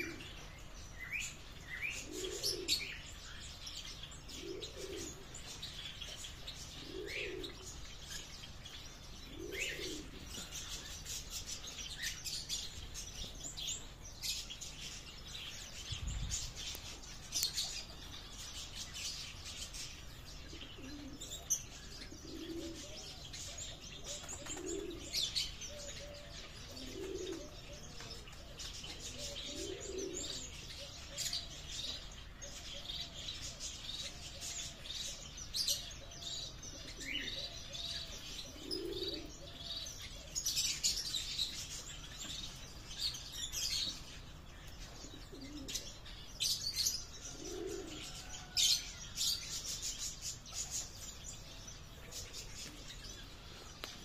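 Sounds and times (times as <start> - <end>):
pigeons cooing: 0.0 - 54.0
small birds chirping: 0.0 - 54.0.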